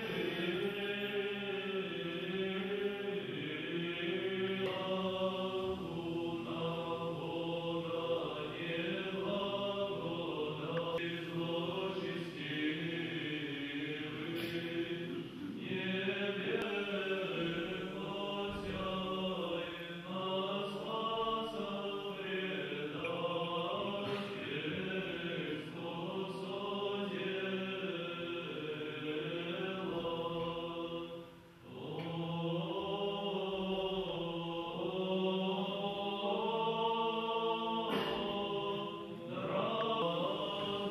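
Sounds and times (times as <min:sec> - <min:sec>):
choir chanting: 0:00.0 - 0:40.9.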